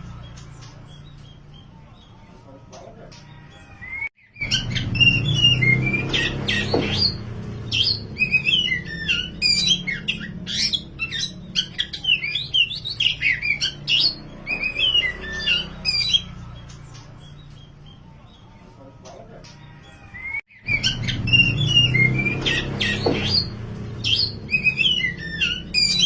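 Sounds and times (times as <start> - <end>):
bird singing: 0.0 - 26.0.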